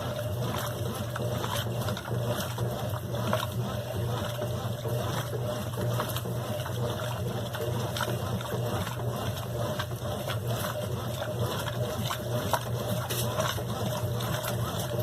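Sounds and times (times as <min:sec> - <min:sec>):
washing machine humming: 0:00.0 - 0:15.0
water sloshing and splashing: 0:00.0 - 0:15.0.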